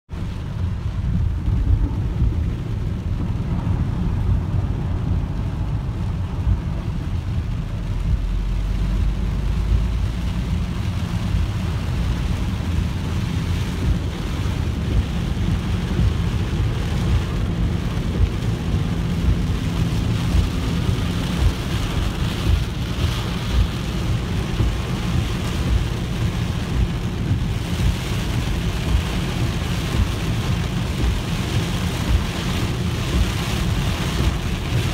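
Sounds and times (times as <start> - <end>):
rain hissing on windscreen: 0.1 - 34.9
tyres running through water: 0.1 - 34.9.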